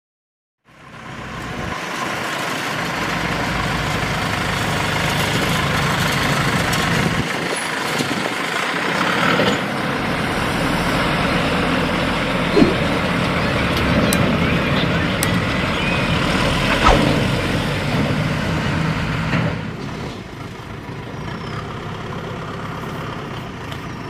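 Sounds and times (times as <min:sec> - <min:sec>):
heavy diesel engine running: 0:00.7 - 0:24.0.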